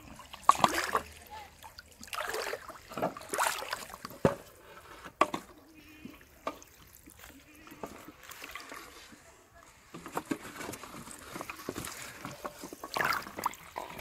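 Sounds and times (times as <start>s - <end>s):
fish thrashing in water: 0.0s - 4.7s, 5.6s - 9.2s, 10.4s - 14.0s
person wading in water: 0.0s - 4.7s, 5.8s - 9.3s, 10.9s - 14.0s.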